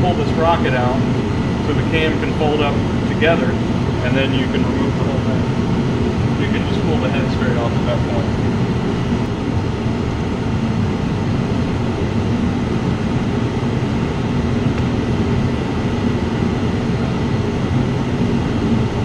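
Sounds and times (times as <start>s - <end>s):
machine droning: 0.0s - 19.0s.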